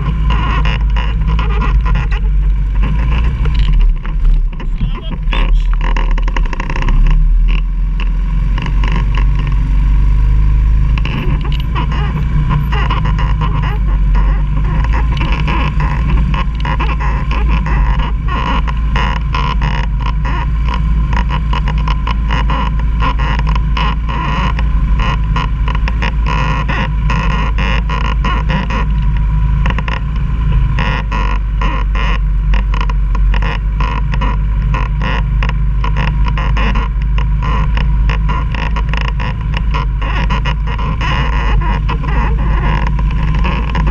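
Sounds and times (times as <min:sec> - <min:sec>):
knocks and rattles: 0:00.0 - 0:09.6, 0:10.8 - 0:43.9
quad engine rumbling: 0:00.0 - 0:43.9.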